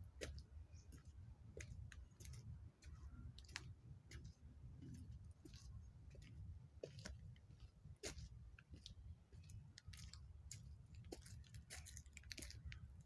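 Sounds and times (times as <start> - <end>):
footsteps crunching on trail: 0.2 - 12.8.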